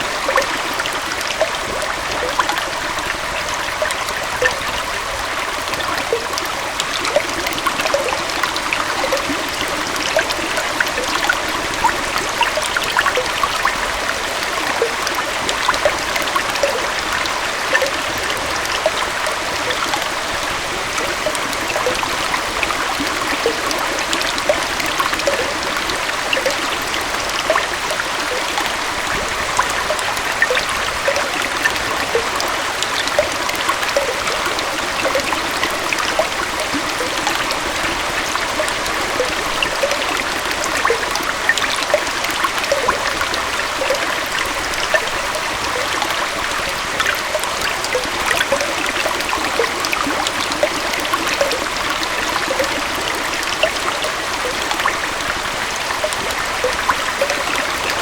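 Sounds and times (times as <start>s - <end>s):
waterfall and stream flowing: 0.0s - 58.0s.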